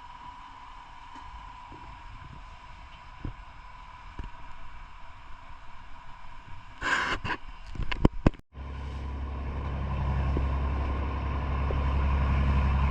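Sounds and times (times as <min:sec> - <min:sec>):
boat engine droning: 0:00.0 - 0:06.8, 0:08.5 - 0:12.9.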